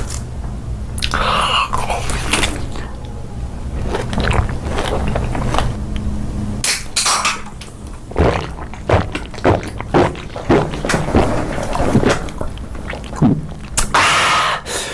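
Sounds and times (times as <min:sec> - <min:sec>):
low steady hum: 0:00.0 - 0:14.9
biting and chewing: 0:01.0 - 0:14.0.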